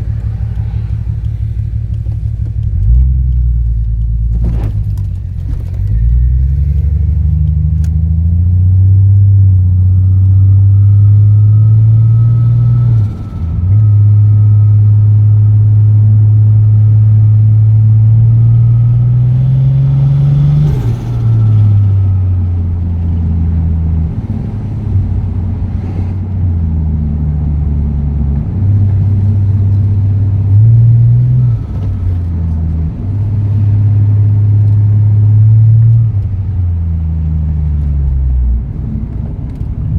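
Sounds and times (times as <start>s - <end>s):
car engine accelerating and shifting gears: 0.0s - 39.9s.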